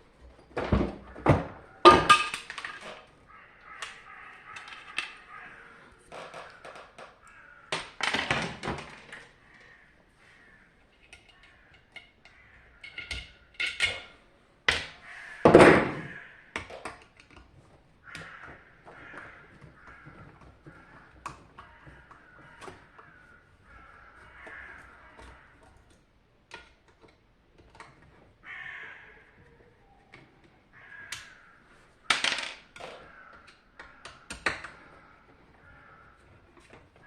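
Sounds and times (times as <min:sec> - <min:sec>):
plastic parts knocking and clattering: 0:00.1 - 0:09.6, 0:10.9 - 0:28.6, 0:32.0 - 0:37.0.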